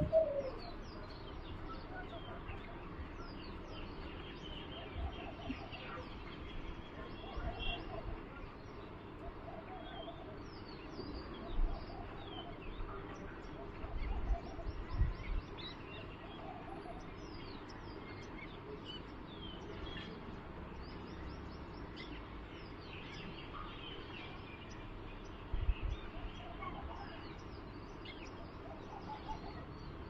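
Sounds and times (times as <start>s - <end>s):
small birds chirping: 0.0s - 30.0s
steady background noise: 0.0s - 30.0s.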